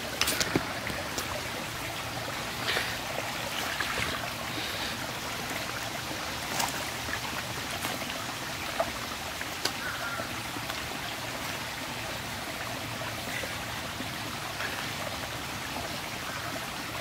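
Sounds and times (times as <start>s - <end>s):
creek running over rocks: 0.0s - 17.0s.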